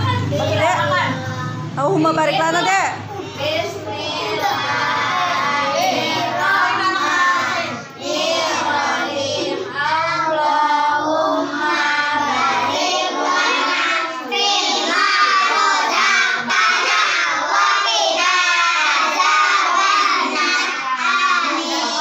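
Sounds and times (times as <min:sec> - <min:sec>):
young children singing: 0:03.2 - 0:22.0.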